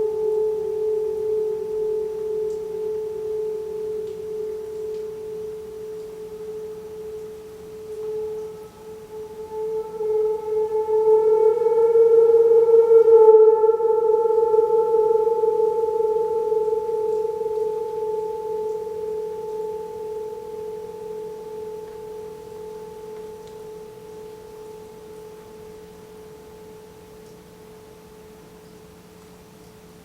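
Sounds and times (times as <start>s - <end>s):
ringing metal bowl tone: 0.0s - 29.8s.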